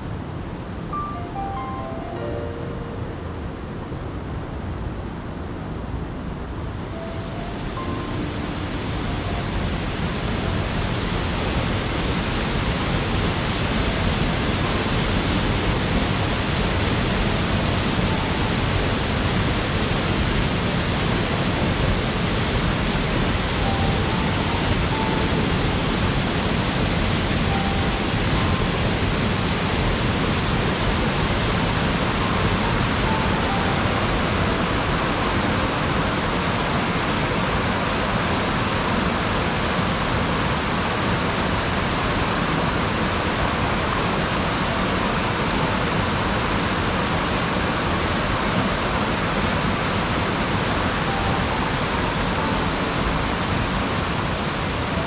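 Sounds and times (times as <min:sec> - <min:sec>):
waterfall rushing: 0:00.3 - 0:04.1, 0:06.8 - 0:55.0.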